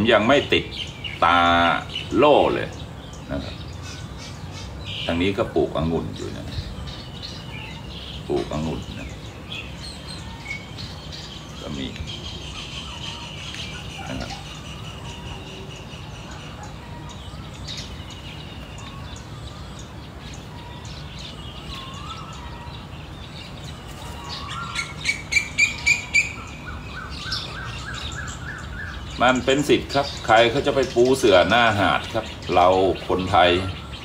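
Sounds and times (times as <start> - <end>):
birds chirping and calling: 0.0 - 34.0
sharp repeated bird calls: 0.0 - 34.0.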